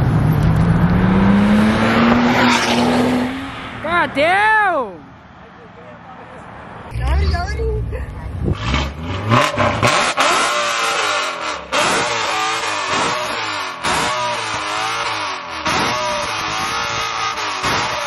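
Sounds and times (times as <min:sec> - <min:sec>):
car engine revving: 0:00.0 - 0:03.9, 0:06.8 - 0:18.0.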